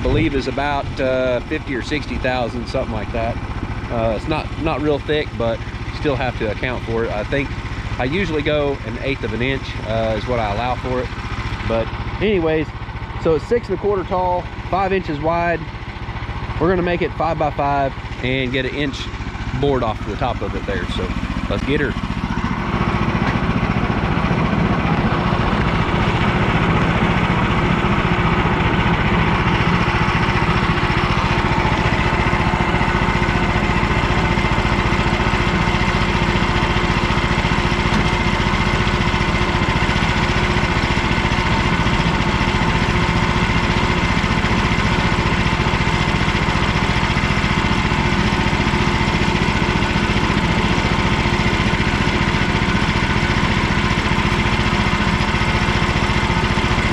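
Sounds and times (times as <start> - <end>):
sawmill gas engine running: 0.0 - 56.9.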